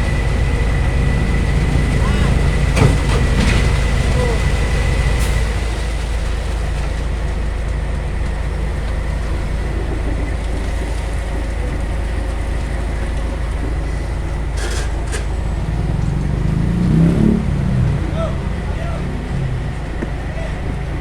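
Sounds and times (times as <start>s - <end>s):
diesel machinery rumble: 0.0s - 21.0s.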